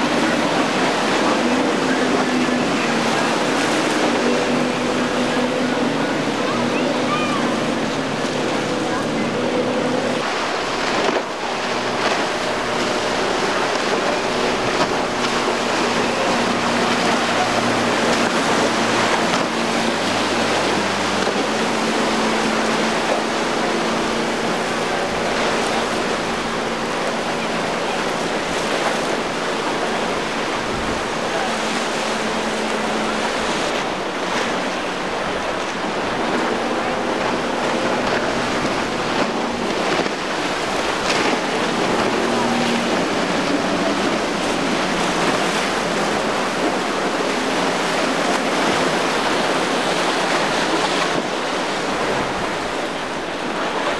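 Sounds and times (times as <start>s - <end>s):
boat engines running: 0.0s - 53.9s
surf and wave wash: 0.0s - 53.9s.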